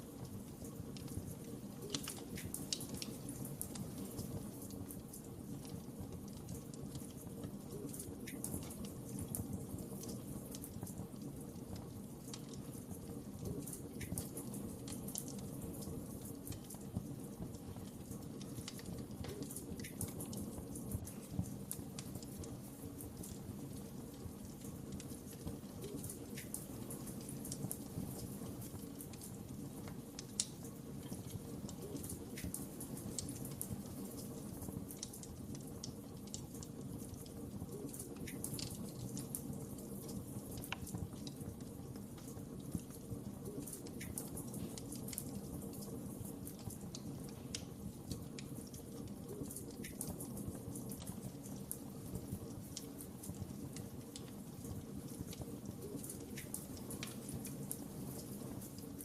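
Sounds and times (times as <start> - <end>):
low rush of flames: 0.0 - 59.0
wood fire crackling: 0.0 - 59.0.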